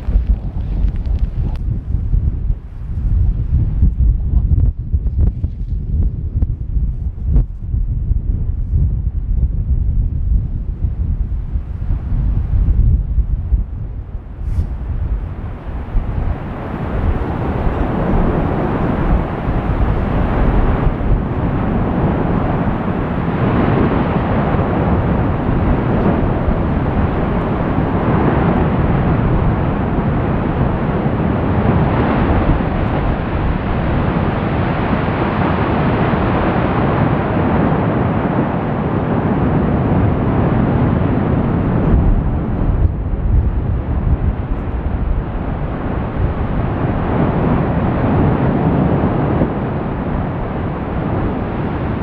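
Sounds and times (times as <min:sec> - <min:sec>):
lava fountain deep rushing: 0:00.0 - 0:52.0.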